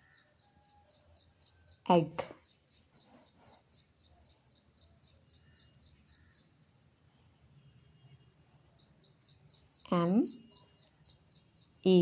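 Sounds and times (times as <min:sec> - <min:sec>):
faint bird chirping: 0:00.0 - 0:12.0.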